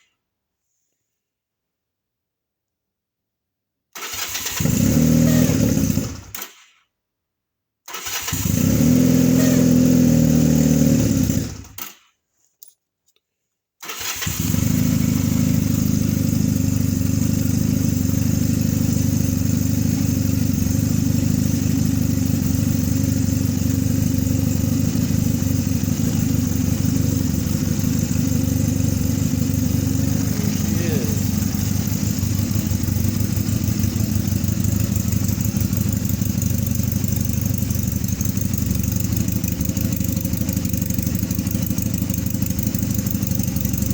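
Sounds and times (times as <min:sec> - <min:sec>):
engine starting and running: 0:04.0 - 0:06.8, 0:07.9 - 0:12.1, 0:13.8 - 0:43.9.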